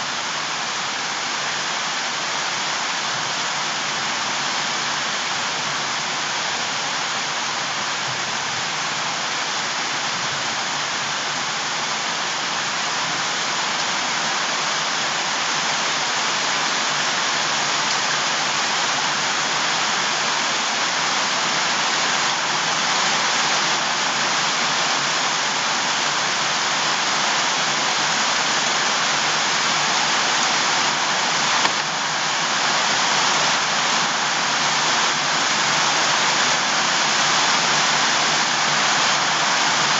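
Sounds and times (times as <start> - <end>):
water rushing: 2.0 - 39.9.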